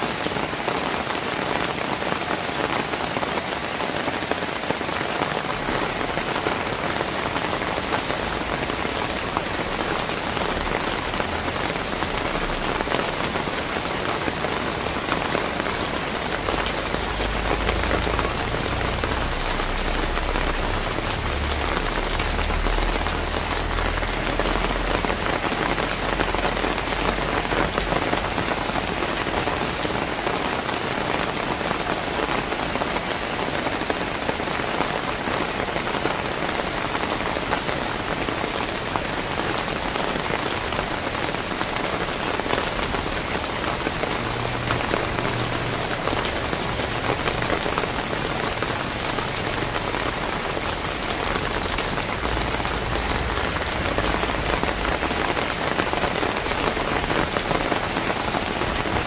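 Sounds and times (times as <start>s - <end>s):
rain on hard surfaces: 0.0s - 59.0s.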